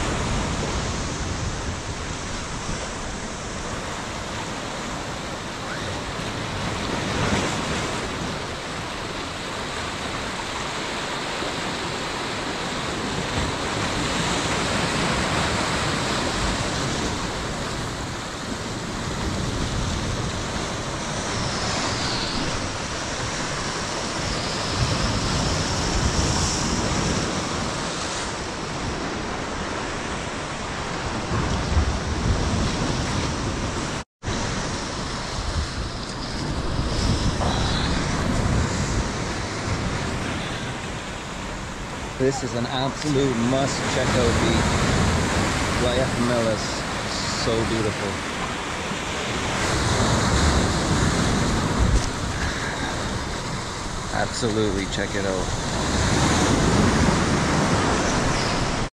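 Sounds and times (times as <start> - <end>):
ocean surf washing over boulders: 0.0 - 58.9.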